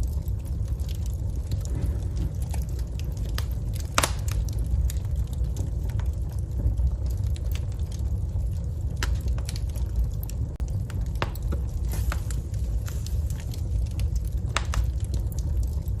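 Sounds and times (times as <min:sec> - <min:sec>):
fire popping and snapping: 0:00.0 - 0:16.0
low rumble: 0:00.0 - 0:16.0
wood fire crackling: 0:00.0 - 0:16.0.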